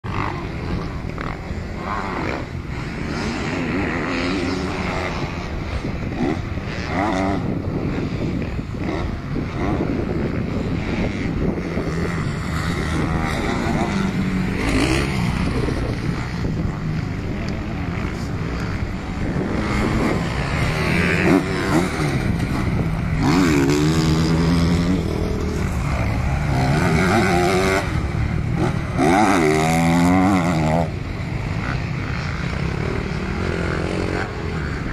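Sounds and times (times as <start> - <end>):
motocross bike engine revving: 0.1 - 34.9.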